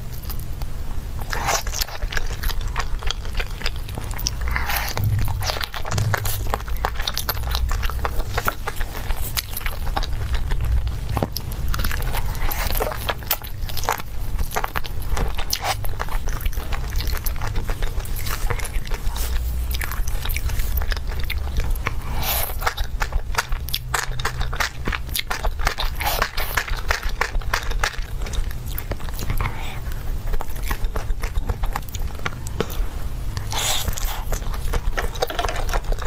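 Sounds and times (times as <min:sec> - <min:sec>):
chewing with wet crunches: 0:00.0 - 0:36.0
low steady hum: 0:00.0 - 0:36.0.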